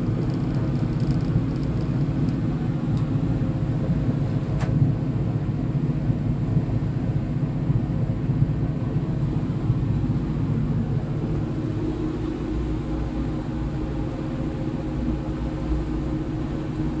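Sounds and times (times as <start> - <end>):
faint hum: 0.0 - 17.0
low mechanical drone: 0.0 - 17.0.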